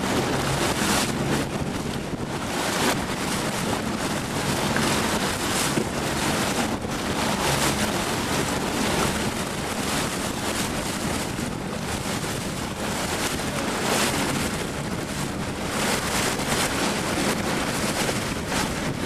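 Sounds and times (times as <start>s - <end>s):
water splashing along hull: 0.0s - 19.0s
wind buffeting microphone: 0.0s - 19.0s.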